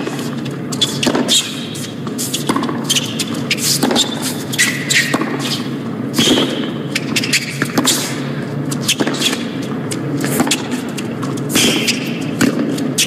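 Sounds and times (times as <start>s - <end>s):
racket hitting tennis ball: 0.0s - 13.0s
shoes squeaking on court: 0.0s - 13.0s.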